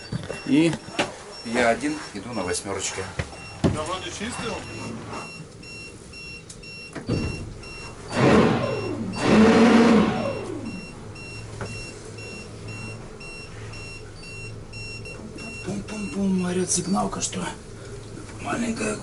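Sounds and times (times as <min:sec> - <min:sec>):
depth alarm beeping: 0:00.0 - 0:17.3.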